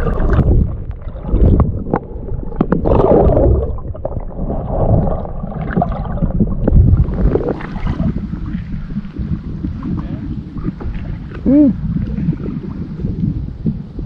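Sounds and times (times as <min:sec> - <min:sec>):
underwater gurgling and sloshing: 0:00.0 - 0:14.0.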